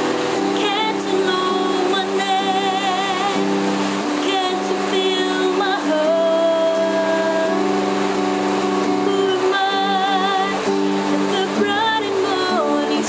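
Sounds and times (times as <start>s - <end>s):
heavy rain hiss: 0.0s - 13.0s
woman singing with vibrato: 0.0s - 13.0s.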